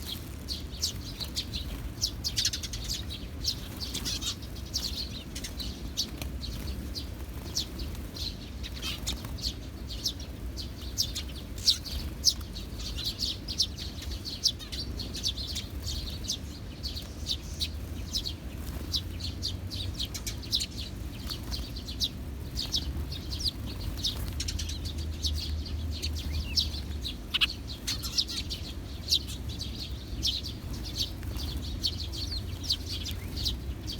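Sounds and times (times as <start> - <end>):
sparrows chirping: 0.0 - 33.9.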